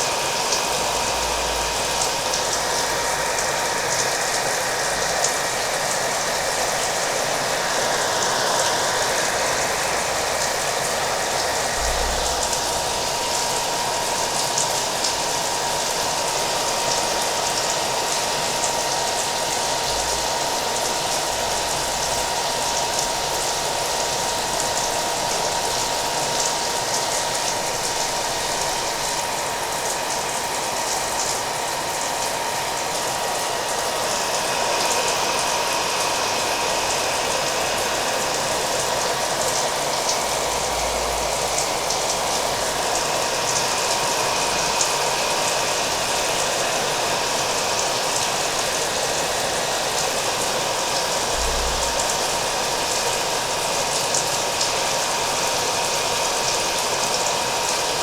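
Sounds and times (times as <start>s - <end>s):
hair dryer running: 0.0s - 58.0s
rain falling: 8.3s - 16.1s, 18.6s - 58.0s.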